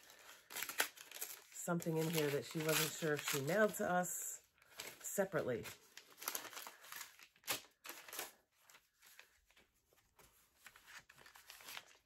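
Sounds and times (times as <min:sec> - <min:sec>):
paper and packaging rustling: 0:00.0 - 0:12.0.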